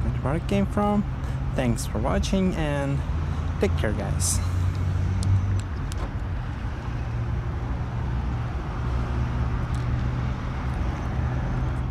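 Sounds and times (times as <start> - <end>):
car engine humming: 0.0 - 11.9.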